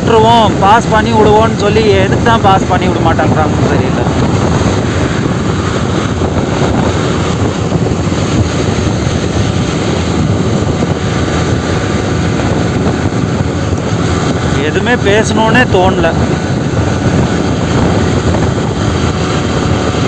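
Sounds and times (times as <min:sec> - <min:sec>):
motorcycle engine: 0:00.0 - 0:20.0
road noise: 0:00.0 - 0:20.0
wind hitting microphone: 0:00.0 - 0:20.0.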